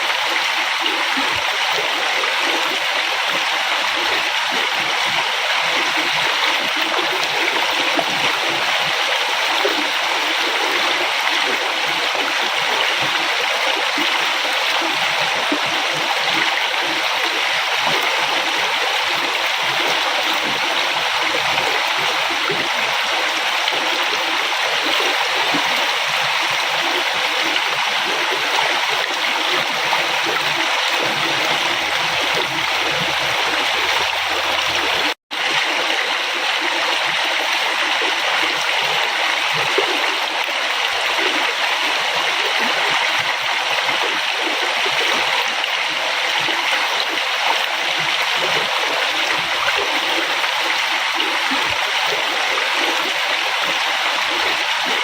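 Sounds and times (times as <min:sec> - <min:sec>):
river flowing and gurgling: 0:00.0 - 0:55.0.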